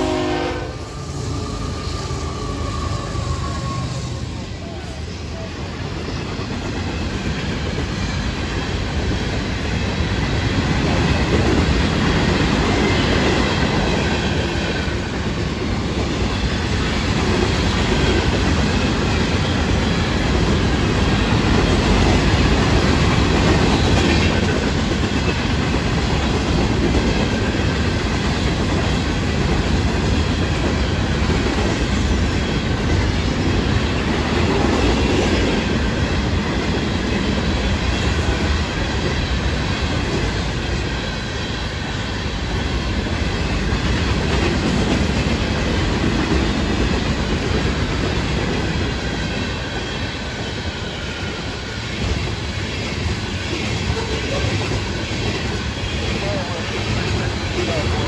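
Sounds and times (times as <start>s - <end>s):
train wheels clattering on rails: 1.0s - 58.0s.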